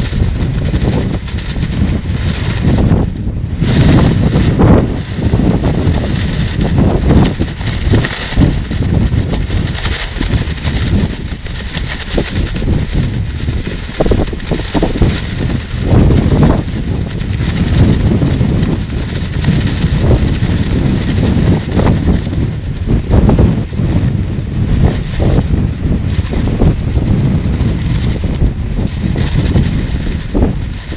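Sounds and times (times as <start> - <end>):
rain suit flapping and crackling: 0.0 - 30.9
wind buffeting microphone: 0.0 - 30.9.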